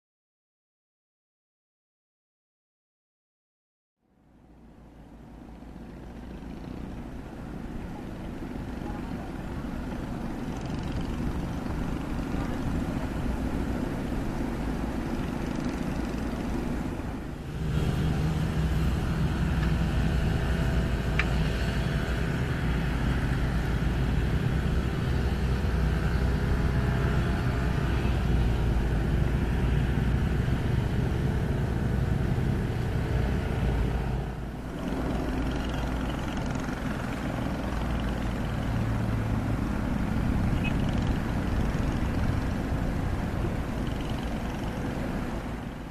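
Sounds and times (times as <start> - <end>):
excavator diesel engine running: 4.7 - 45.9.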